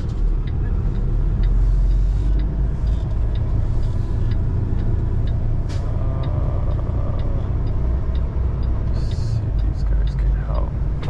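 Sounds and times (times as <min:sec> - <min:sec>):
truck engine running low: 0:00.0 - 0:11.0
turn signal clicking: 0:00.0 - 0:11.0.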